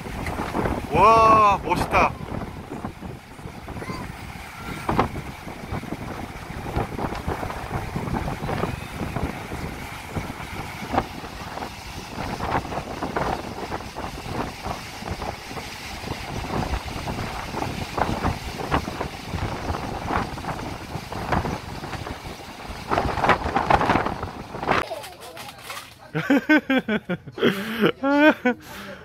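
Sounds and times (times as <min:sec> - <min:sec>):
strong wind buffeting microphone: 0:00.0 - 0:24.8
heavy surf: 0:00.0 - 0:29.0.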